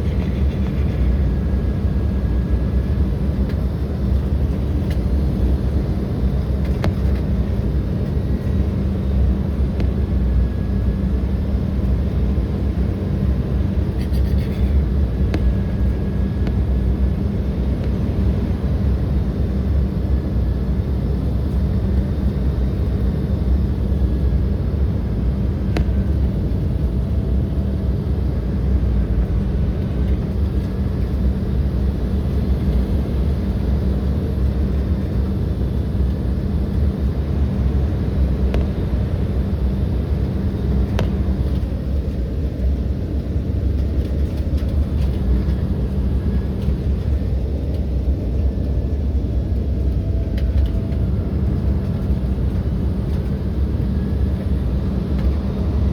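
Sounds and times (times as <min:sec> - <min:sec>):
airliner engine rumble in cabin: 0:00.0 - 0:55.9.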